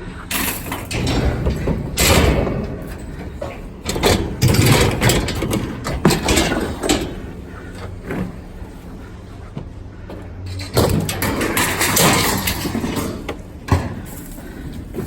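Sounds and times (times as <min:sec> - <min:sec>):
scrap metal clattering: 0:00.1 - 0:09.0, 0:10.4 - 0:15.0.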